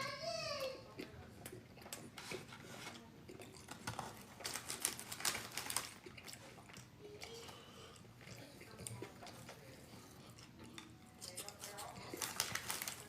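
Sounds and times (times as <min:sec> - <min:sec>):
crunching fried food: 0:01.0 - 0:07.6, 0:08.2 - 0:13.0.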